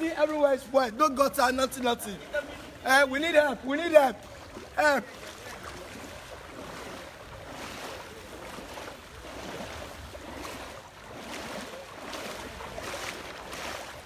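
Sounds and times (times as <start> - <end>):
footsteps wading through water: 0.0 - 14.0.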